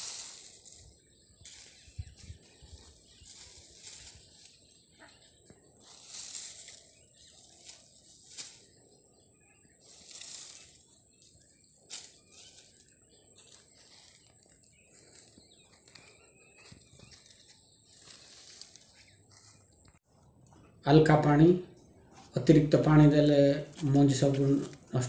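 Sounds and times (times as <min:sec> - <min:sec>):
dry palm fronds rustling: 0:00.0 - 0:09.0, 0:09.7 - 0:19.8, 0:23.4 - 0:25.0.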